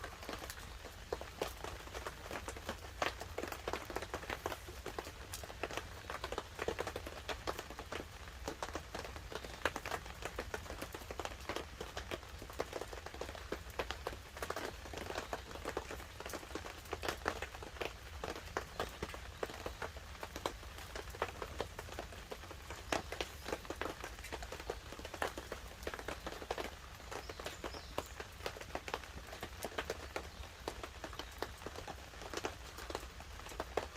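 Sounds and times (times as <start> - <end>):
rain pattering on a tarp: 0.0 - 33.9
wood fire crackling: 0.1 - 33.9.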